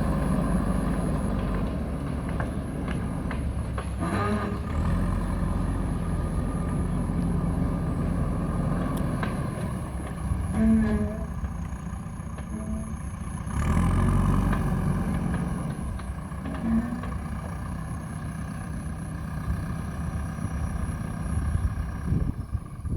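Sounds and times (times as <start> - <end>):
diesel engine revving: 0.0 - 22.9.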